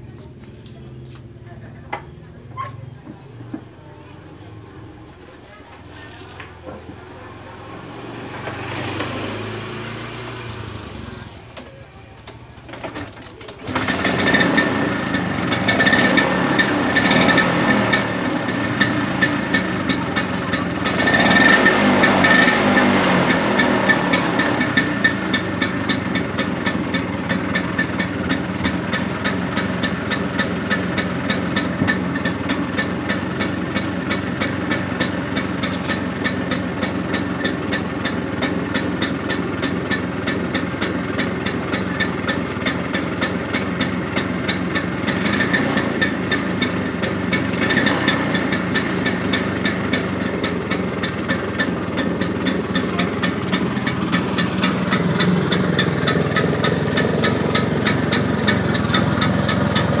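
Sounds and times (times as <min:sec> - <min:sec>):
scooter engine idling: 0:00.0 - 1:00.0
scooter engine kick-started: 0:00.1 - 1:00.0
scooter engine revving: 0:00.3 - 1:00.0.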